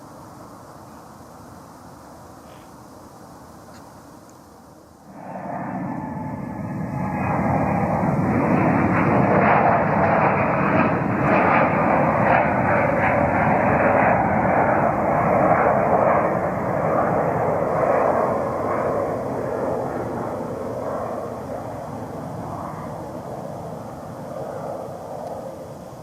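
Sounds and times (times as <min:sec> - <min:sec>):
jet engines roaring: 0:04.5 - 0:26.0.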